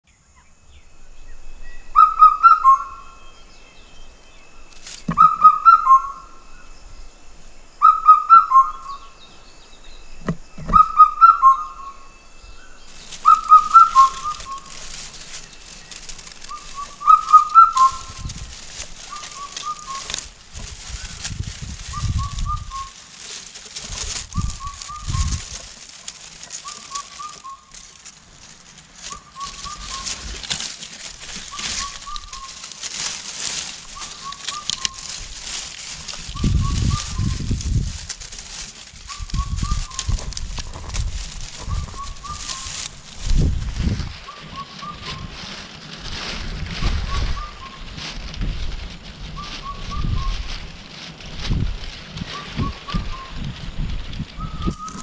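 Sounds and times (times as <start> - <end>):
cuckoo calling: 0.1 - 55.0
dry grass rustling: 0.4 - 55.0.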